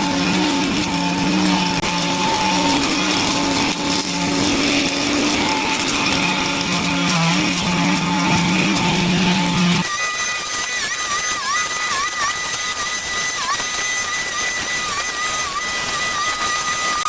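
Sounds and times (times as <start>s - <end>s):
small petrol engine at high revs: 0.0s - 17.0s.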